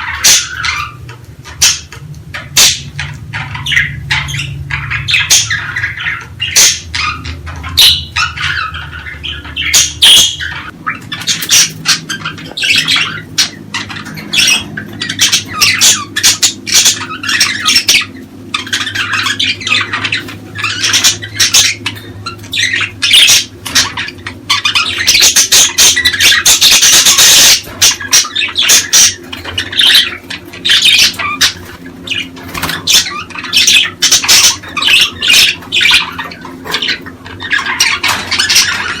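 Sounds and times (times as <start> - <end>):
budgerigars chattering and squawking: 0.0 - 39.0
low steady hum: 0.0 - 39.0.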